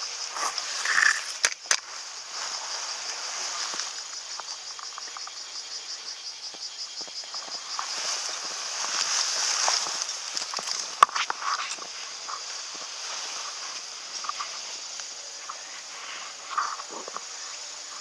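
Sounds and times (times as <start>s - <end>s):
grass rustling against walker: 0.0s - 18.0s
high-pitched insect chorus: 0.0s - 18.0s.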